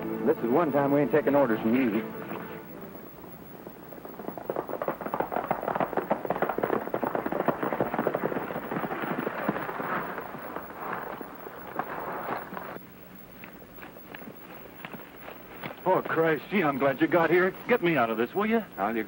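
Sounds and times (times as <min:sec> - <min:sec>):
hooves galloping on hard ground: 0:00.0 - 0:19.0.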